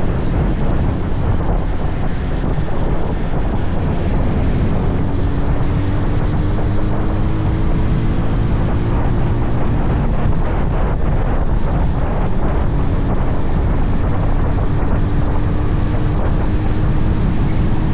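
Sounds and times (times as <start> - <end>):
motorcycle engine running: 0.0 - 17.9
wind buffeting microphone: 0.0 - 17.9.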